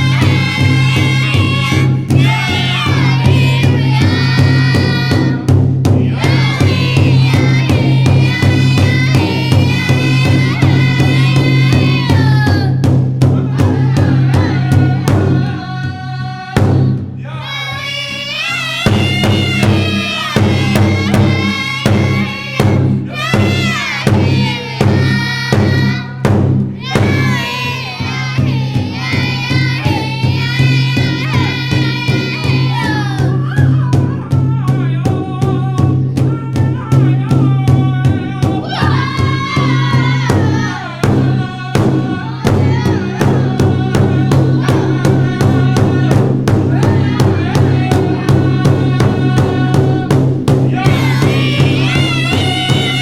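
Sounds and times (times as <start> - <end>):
group singing: 0.0 - 53.0
steady drumbeat: 0.0 - 53.0.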